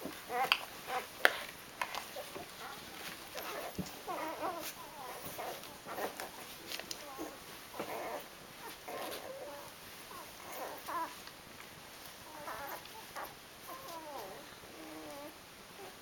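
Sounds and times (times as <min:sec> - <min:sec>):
puppies whimpering and squeaking: 0:00.3 - 0:01.1, 0:02.0 - 0:11.2, 0:12.2 - 0:15.9.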